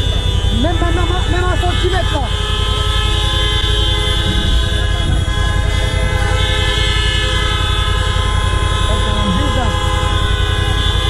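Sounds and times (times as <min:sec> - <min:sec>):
car horns honking: 0:00.0 - 0:11.0
traffic rumble: 0:00.0 - 0:11.0.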